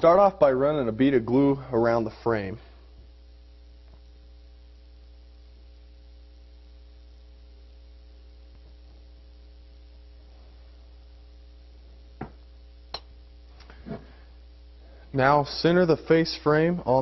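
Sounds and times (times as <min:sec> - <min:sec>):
electrical mains hum: 0:00.0 - 0:17.0
faint hiss: 0:00.0 - 0:17.0.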